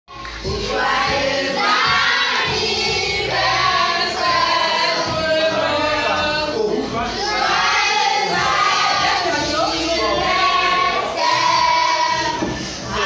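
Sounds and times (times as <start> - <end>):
group singing with children: 0.1 - 13.0.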